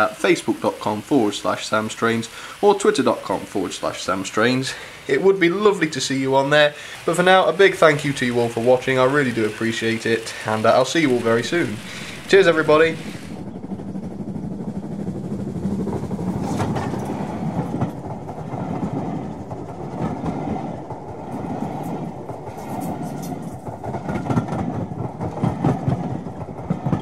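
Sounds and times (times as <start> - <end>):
train wheels rumbling on rails: 0.0 - 27.0
wheels clicking over rail joints: 0.0 - 27.0.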